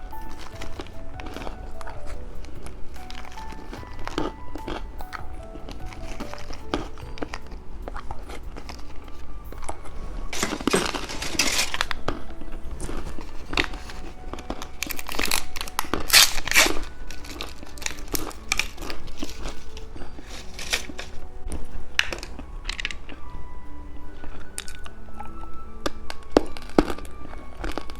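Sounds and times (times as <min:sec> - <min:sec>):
hard candy crunching: 0:00.0 - 0:23.3
plastic wrappers crinkling: 0:00.0 - 0:27.9
soft background music: 0:00.0 - 0:27.9.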